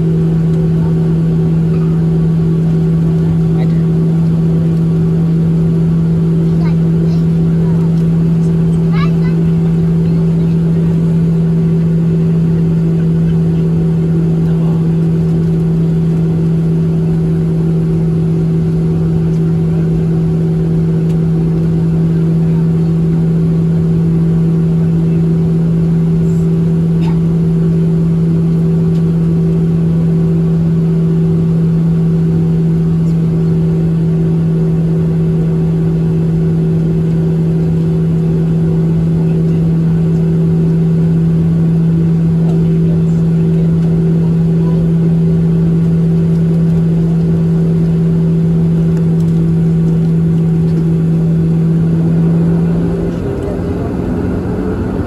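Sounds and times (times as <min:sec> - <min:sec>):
jet engine cabin drone: 0:00.0 - 0:55.0.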